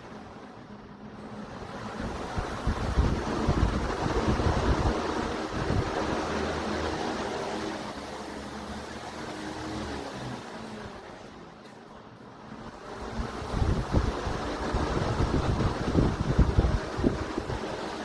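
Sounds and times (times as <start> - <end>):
electric fan wind buffeting microphone: 0.0 - 18.0.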